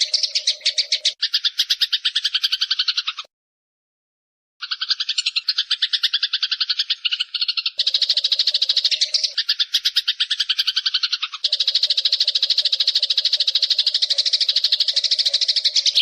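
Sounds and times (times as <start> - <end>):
sparrow chattering: 0.0 - 3.3, 4.6 - 16.0.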